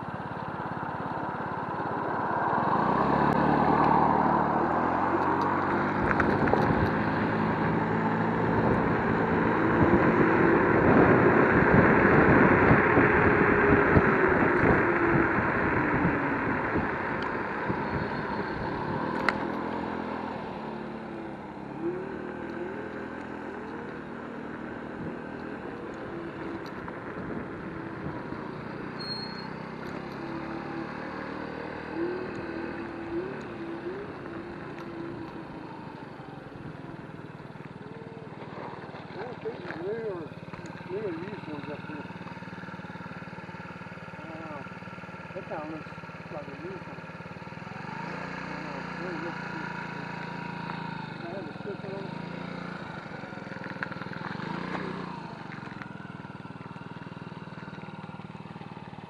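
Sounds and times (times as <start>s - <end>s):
road noise: 0.0s - 59.0s
vehicle passing by: 0.7s - 59.0s.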